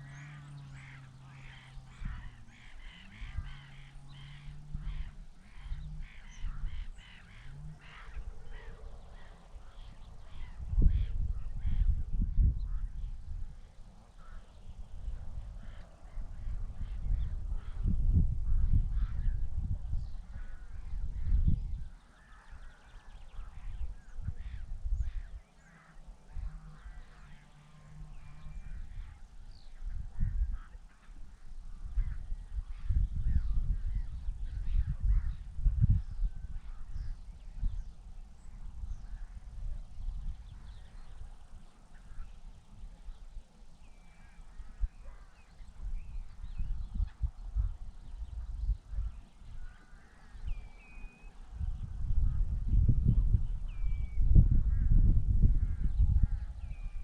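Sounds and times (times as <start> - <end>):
flock of birds calling: 0.0 - 13.2, 13.8 - 17.9, 18.5 - 35.5, 38.5 - 52.5.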